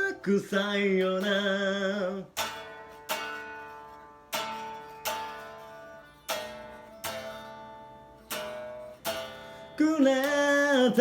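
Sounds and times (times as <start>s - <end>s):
guitar strummed in chords: 0.0s - 11.0s.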